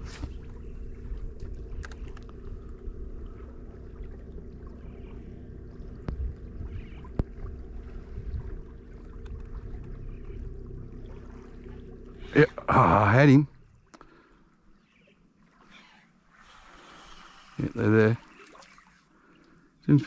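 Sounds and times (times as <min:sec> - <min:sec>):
steady low hum: 0:00.0 - 0:18.3
water lapping against boat hull: 0:00.0 - 0:20.0.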